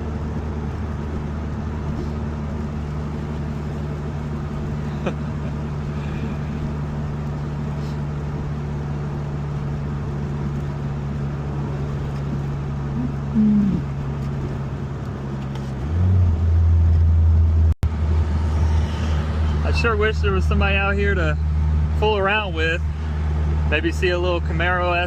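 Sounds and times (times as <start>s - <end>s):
turbocharged car engine cruising: 0.0s - 25.0s.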